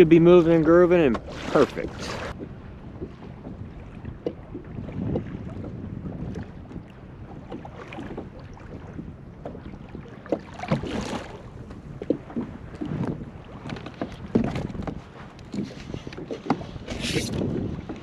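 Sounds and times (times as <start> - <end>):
knocks and splashes: 0.0 - 18.0
water slapping against hull: 0.0 - 18.0
wind on microphone: 0.0 - 18.0.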